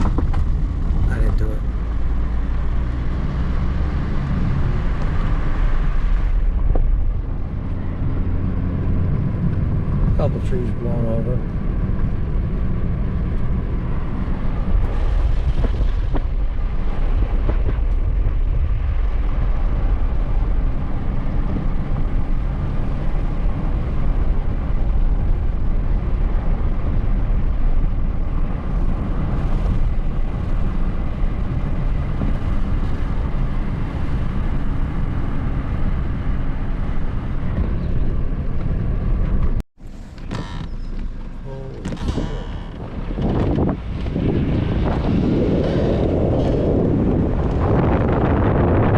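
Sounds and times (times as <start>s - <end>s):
car driving rumble: 0.0s - 48.9s.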